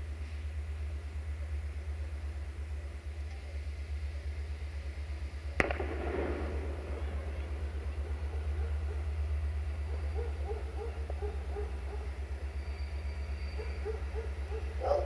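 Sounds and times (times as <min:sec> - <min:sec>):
diesel locomotive engine throbbing: 0:00.0 - 0:15.0.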